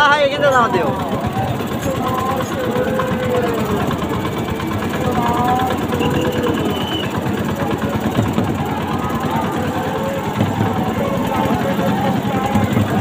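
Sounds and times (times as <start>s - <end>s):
boat engine chugging: 0.0s - 13.0s
crowd shouting: 0.0s - 13.0s
voices calling out: 0.0s - 13.0s.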